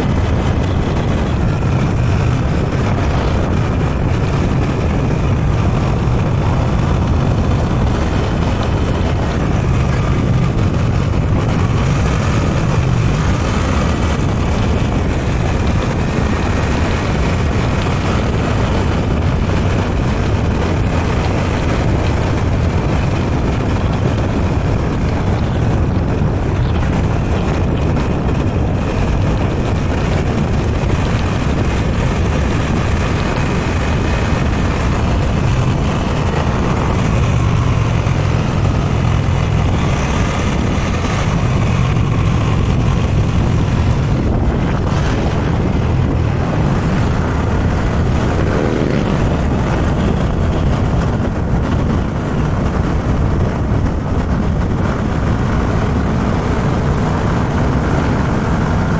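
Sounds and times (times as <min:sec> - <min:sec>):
motorbike engine: 0:00.0 - 0:58.9
road noise: 0:00.0 - 0:58.9
wind rush on microphone: 0:00.0 - 0:58.9.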